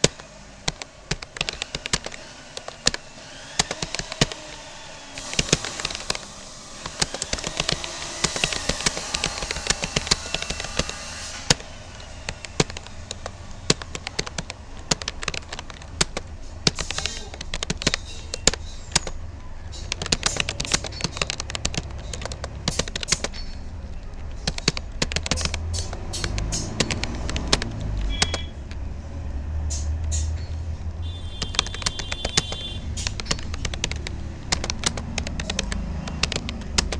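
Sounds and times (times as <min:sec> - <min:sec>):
keyboard key clicks: 0:00.0 - 0:28.8, 0:29.7 - 0:36.9.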